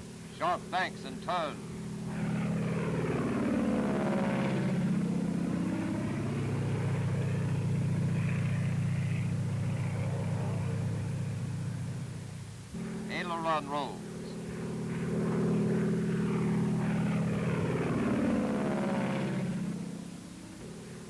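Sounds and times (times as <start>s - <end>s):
propeller plane engines droning: 0.0s - 21.0s.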